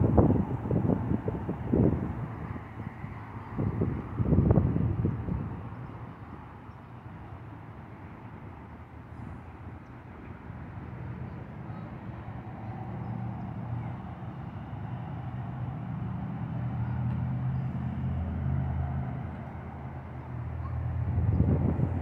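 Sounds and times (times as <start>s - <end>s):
distant road traffic rumble: 0.0s - 22.0s.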